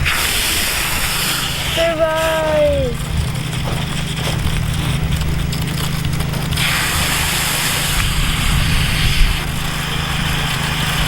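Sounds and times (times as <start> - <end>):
garden hose spraying water: 0.0 - 11.0
steady low hum: 0.0 - 11.0.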